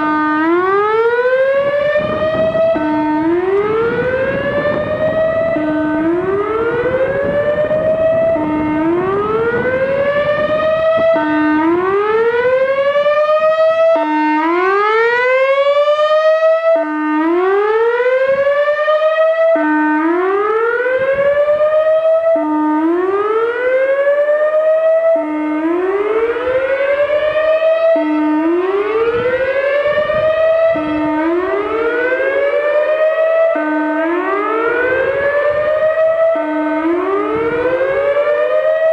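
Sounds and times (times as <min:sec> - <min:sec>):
electronic warning siren whooping: 0:00.0 - 0:38.9.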